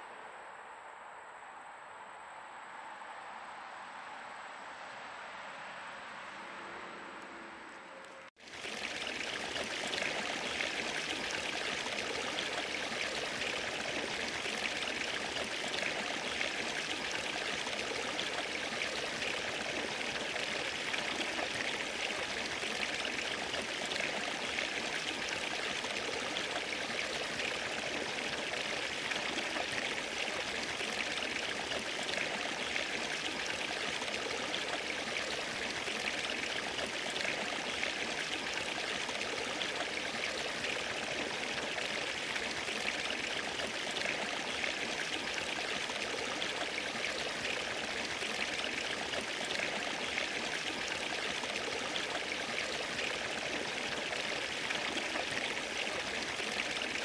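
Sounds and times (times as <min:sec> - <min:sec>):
stream trickling over rocks: 0:08.0 - 0:57.0.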